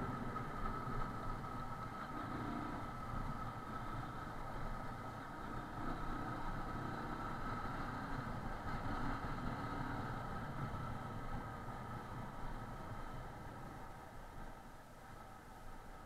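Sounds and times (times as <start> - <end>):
motorcycle engine running: 0.0 - 13.8
road noise: 0.0 - 16.0.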